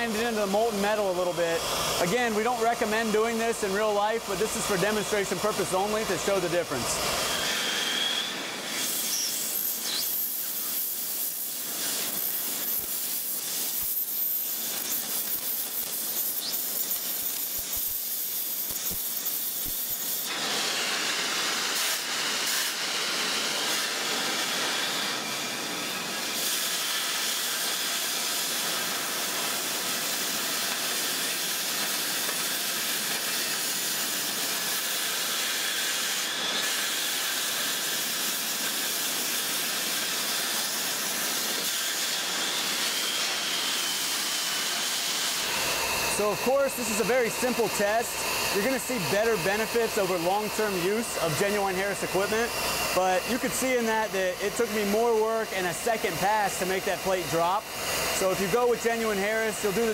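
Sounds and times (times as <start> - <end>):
cutting torch hissing: 0.0 - 59.9.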